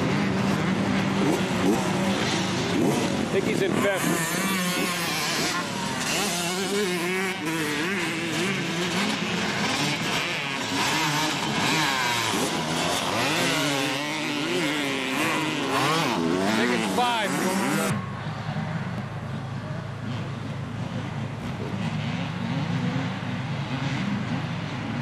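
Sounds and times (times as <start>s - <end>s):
dirt bike engines racing: 0.0s - 25.0s.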